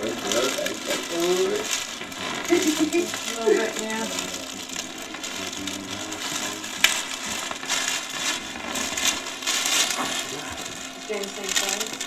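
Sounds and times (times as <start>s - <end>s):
gift packaging rustling: 0.0s - 12.0s
plastic bag crinkling: 0.0s - 12.0s
sharp crackle: 0.0s - 12.0s.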